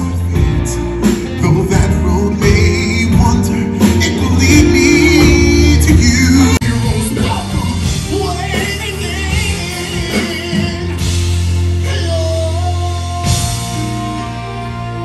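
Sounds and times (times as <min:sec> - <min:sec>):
live band playing: 0:00.0 - 0:15.0
man singing into microphone: 0:01.4 - 0:15.0.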